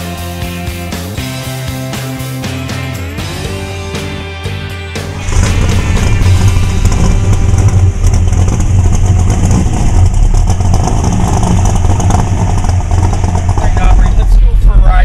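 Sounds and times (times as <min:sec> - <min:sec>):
car engine rumbling: 0:00.7 - 0:15.0.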